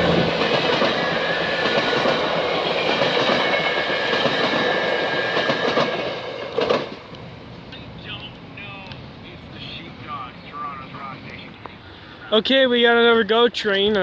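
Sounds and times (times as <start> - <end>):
train wheels clacking on rails: 0.0 - 11.6.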